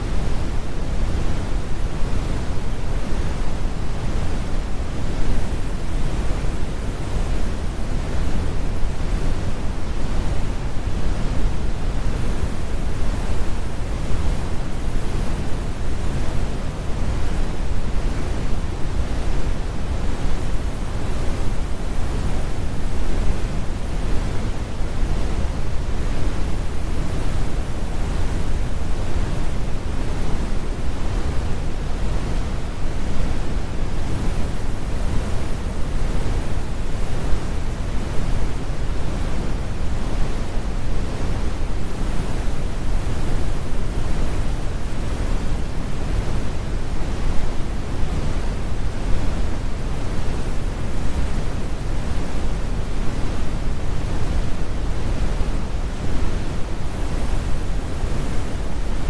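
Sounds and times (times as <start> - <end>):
brown noise rumbling hiss: 0.0 - 59.0.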